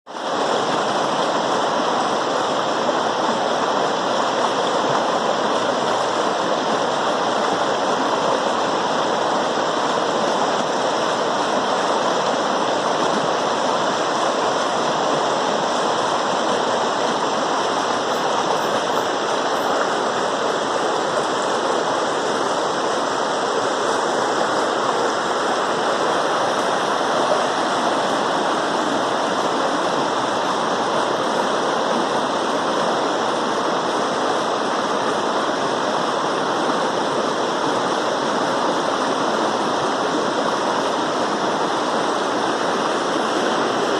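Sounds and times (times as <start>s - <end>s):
stream water rushing: 0.1s - 43.9s.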